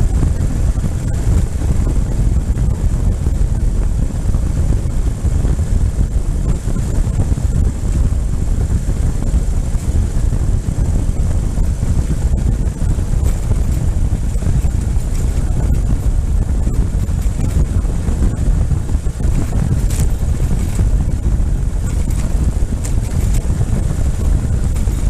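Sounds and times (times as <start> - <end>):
motorcycle engine rumbling: 0.0 - 25.0
wind buffeting microphone: 0.0 - 25.0.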